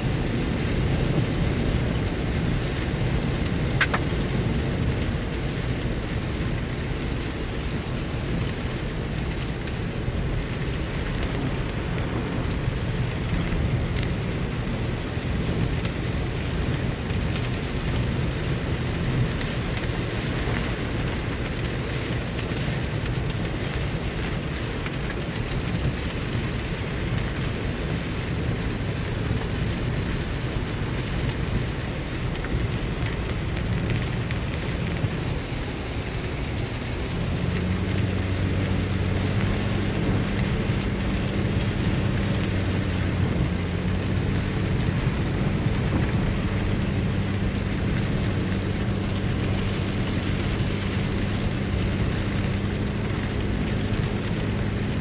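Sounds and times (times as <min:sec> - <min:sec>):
rain falling on a car: 0:00.0 - 0:55.0
road and engine noise: 0:00.0 - 0:55.0.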